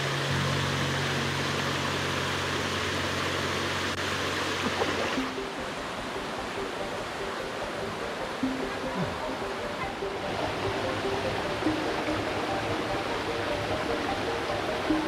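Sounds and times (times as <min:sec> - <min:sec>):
soft background music: 0:00.0 - 0:15.0
water rushing in a stream: 0:00.0 - 0:15.0.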